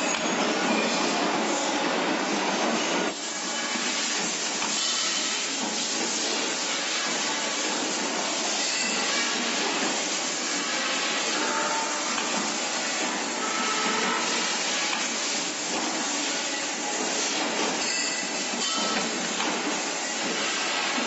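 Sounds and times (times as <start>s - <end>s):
hydraulic machine hiss and hum: 0.0s - 21.0s.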